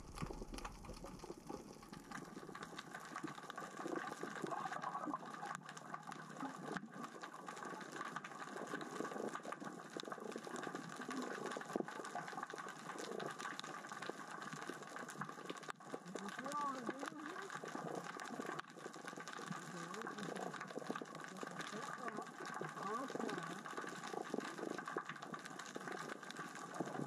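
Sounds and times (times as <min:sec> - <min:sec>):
underwater rocks rolling crackle: 0:00.0 - 0:27.0.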